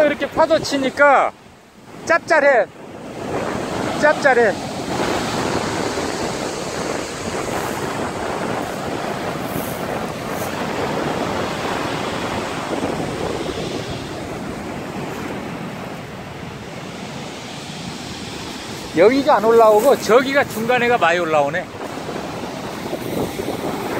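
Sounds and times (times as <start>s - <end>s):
surf washing over pebbles: 0.0s - 23.9s.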